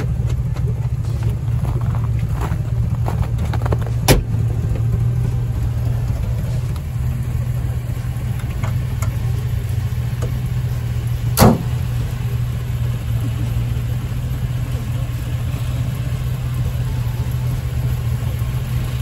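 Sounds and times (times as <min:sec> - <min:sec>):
car engine humming: 0:00.0 - 0:19.0.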